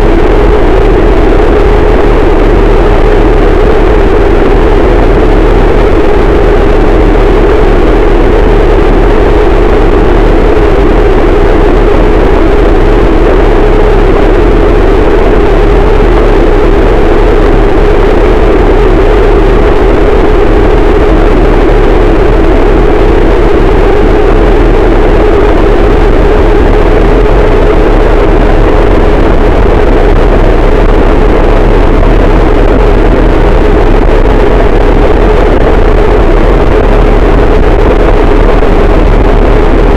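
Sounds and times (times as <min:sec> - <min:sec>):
deep rumble: 0:00.0 - 0:39.9
distorted noise wall: 0:00.0 - 0:39.9.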